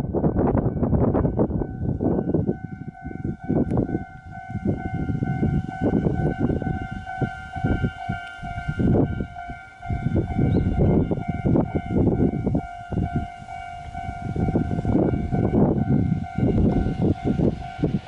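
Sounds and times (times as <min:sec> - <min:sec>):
level crossing alarm ringing: 0:01.8 - 0:18.0.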